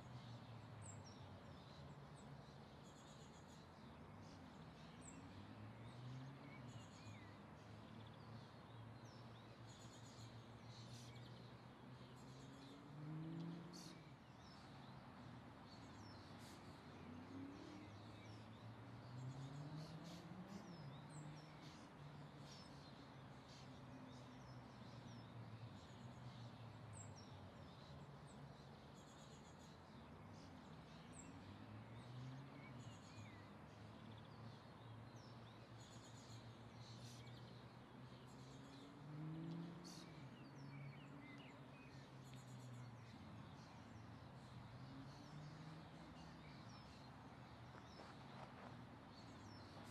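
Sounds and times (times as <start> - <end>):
birds chirping: 0.0 - 49.9
distant traffic hum: 0.0 - 49.9.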